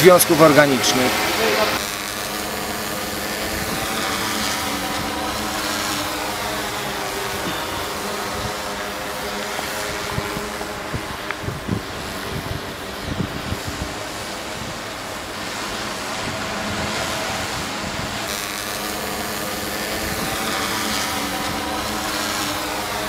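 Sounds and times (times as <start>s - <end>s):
drone propellers humming: 0.0s - 23.0s
wind buffeting microphone: 0.2s - 23.0s.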